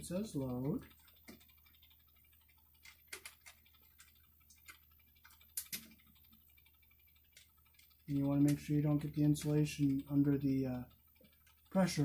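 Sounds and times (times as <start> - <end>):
faint clicks of wires and tool: 0.6 - 12.0.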